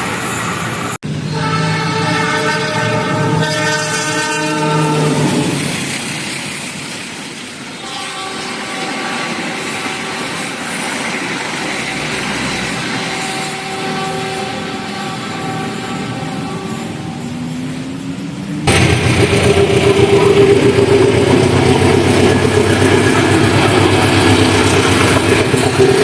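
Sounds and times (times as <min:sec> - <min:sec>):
train rumble and rail noise: 0:00.0 - 0:26.0.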